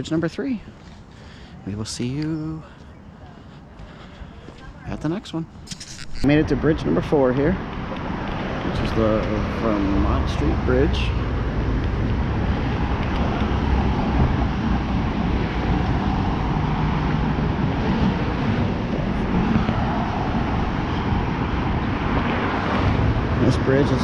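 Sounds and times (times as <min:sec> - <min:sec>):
highway traffic rushing: 0:00.0 - 0:24.0.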